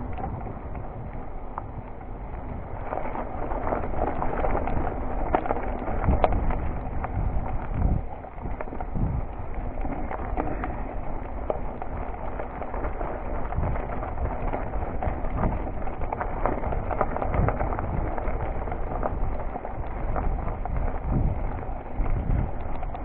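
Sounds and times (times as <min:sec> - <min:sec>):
bike knocking and rattling: 0:00.0 - 0:23.0
bike tyres crunching on gravel: 0:00.0 - 0:23.0.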